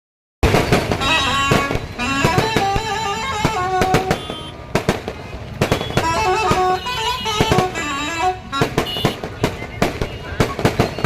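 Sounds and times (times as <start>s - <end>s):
firecrackers banging: 0.4s - 11.0s.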